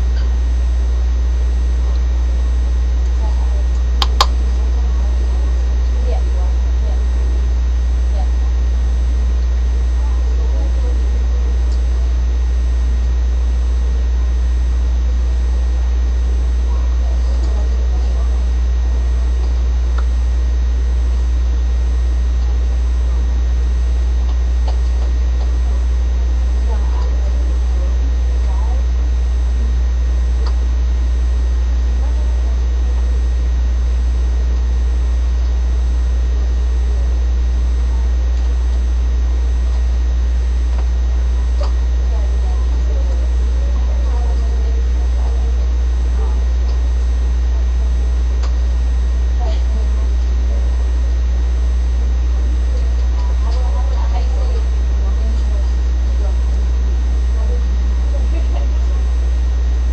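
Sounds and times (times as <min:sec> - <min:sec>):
faint women talking: 0:00.0 - 0:59.9
steady low hum: 0:00.0 - 0:59.9.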